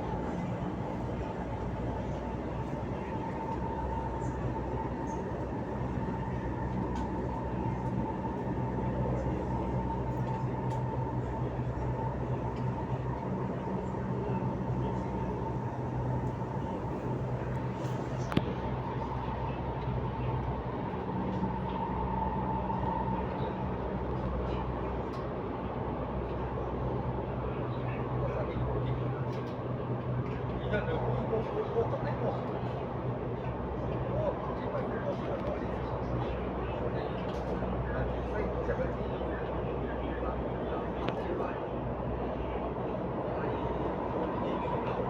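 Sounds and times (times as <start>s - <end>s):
high train whine: 0.0s - 45.0s
metro train rumble: 0.0s - 45.0s.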